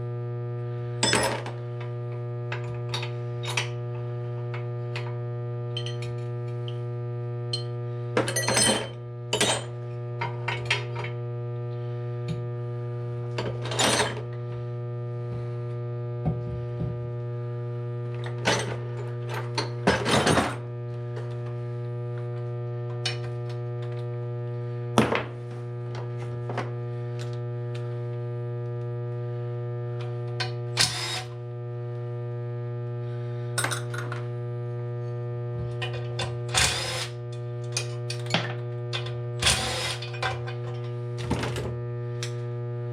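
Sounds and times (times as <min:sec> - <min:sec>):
steady electrical hum: 0:00.0 - 0:42.9.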